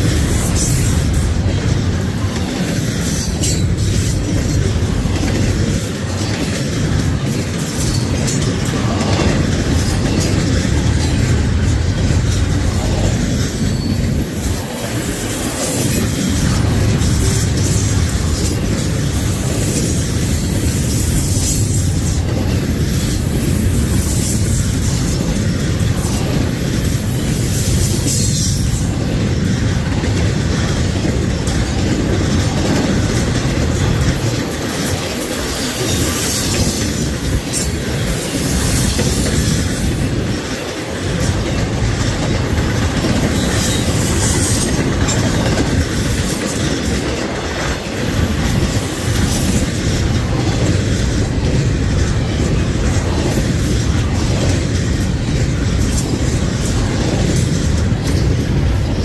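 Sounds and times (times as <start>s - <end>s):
freight train cars rumbling: 0.0s - 59.0s.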